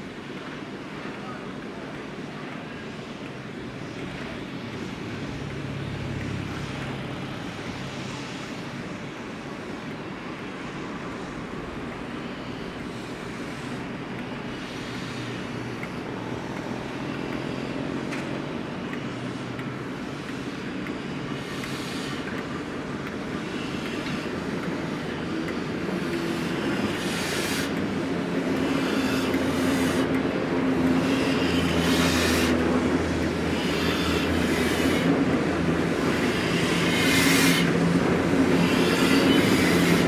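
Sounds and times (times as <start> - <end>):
diesel locomotive engine humming: 0.0 - 40.0.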